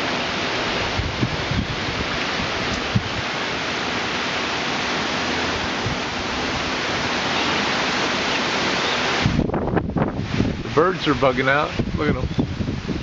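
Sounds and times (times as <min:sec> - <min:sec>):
wind-driven heavy rain: 0:00.0 - 0:13.0.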